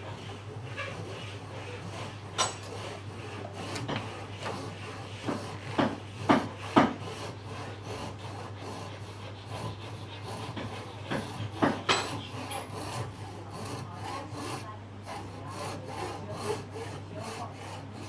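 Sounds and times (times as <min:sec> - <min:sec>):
hand saw cutting wood: 0:00.0 - 0:18.0.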